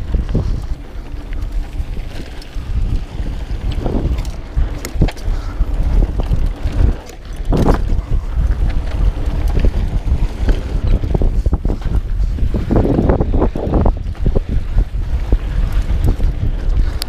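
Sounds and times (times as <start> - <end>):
bike rumbling and rattling on dirt: 0.0 - 17.0
wind buffeting microphone: 0.0 - 17.0.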